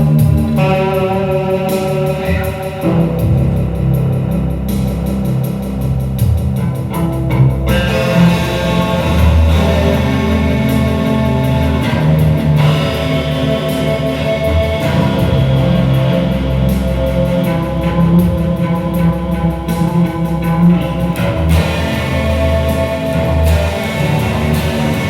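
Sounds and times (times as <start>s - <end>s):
guitar-led rock music: 0.0s - 4.4s, 6.8s - 25.0s.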